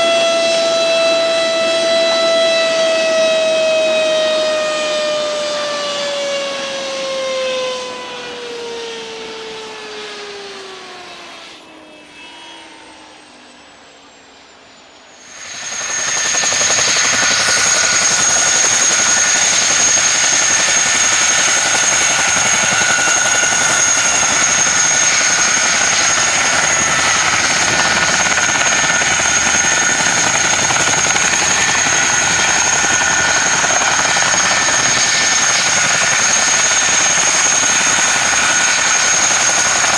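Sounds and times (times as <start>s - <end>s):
helicopter engine and rotor noise: 0.0s - 39.9s
helicopter engine winding down: 0.0s - 39.9s.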